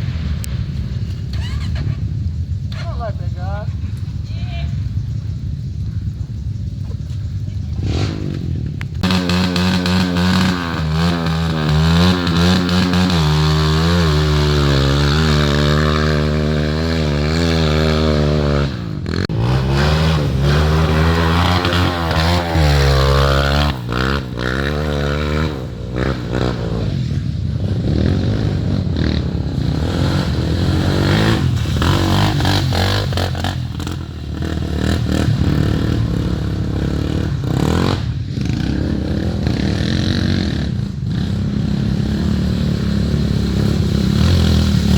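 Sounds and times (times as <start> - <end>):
motorcycle engine running: 0.0 - 44.9
rough rattling engine: 4.9 - 44.9.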